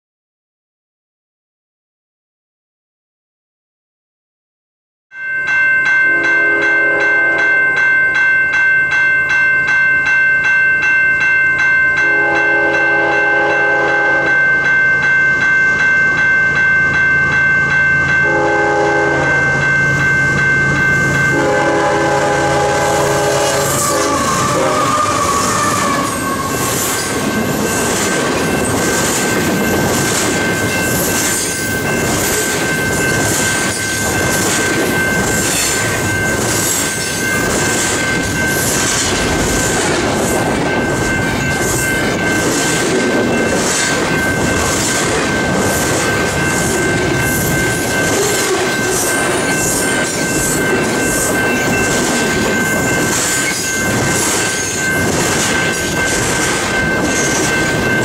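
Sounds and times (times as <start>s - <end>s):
steady high-pitched tone: 5.2s - 58.0s
freight train wheels rumbling on rails: 5.8s - 58.0s.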